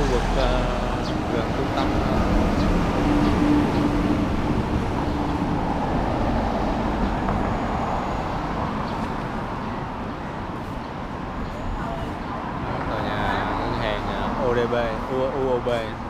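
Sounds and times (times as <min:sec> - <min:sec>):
bus driving past: 0:00.0 - 0:16.0
street traffic noise: 0:00.0 - 0:16.0.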